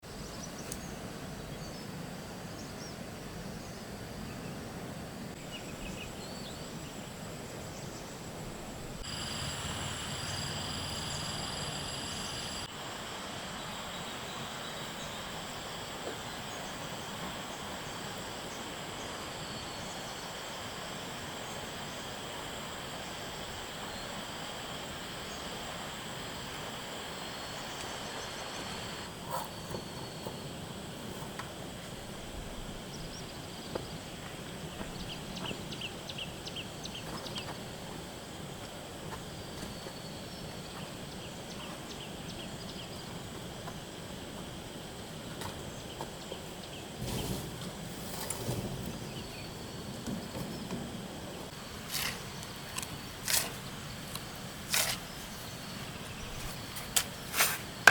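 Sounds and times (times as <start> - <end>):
background hiss: 0.1 - 57.9
high insect drone: 6.8 - 45.9, 48.5 - 57.9.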